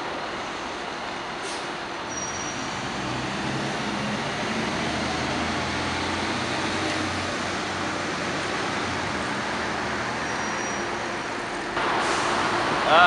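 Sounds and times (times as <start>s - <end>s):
cars passing: 2.5s - 13.0s.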